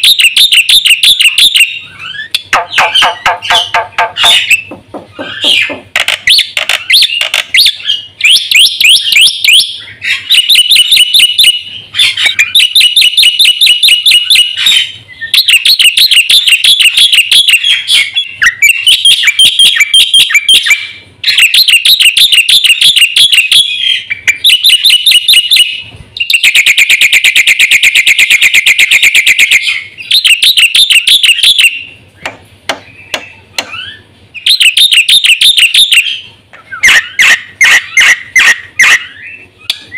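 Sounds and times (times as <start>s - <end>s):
starling chattering song: 0.0s - 32.0s, 32.9s - 39.9s.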